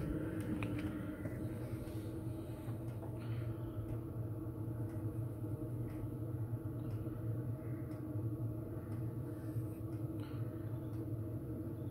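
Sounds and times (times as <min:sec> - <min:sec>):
air heater fan humming: 0:00.0 - 0:11.9.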